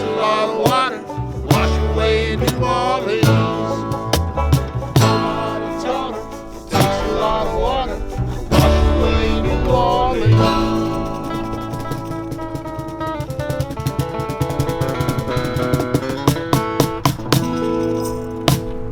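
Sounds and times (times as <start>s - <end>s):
acoustic guitar strumming: 0.0s - 18.9s
bending guitar melody line: 0.0s - 18.9s.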